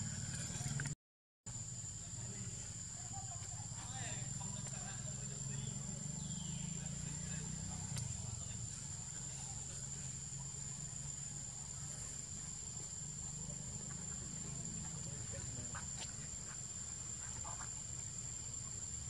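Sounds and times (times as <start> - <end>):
faint chirps: 1.5 - 19.0.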